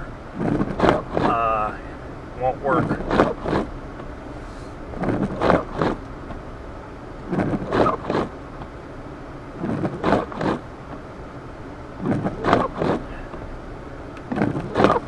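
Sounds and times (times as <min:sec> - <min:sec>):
windshield wipers swishing: 0:00.0 - 0:08.8, 0:09.4 - 0:11.1, 0:11.8 - 0:15.0
car engine and road noise: 0:00.0 - 0:15.0.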